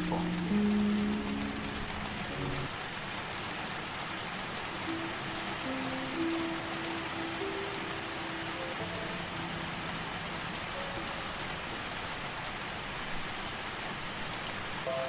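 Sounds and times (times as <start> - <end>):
sharp raindrop ticks: 0.0 - 15.0
steady rain falling: 0.0 - 15.0.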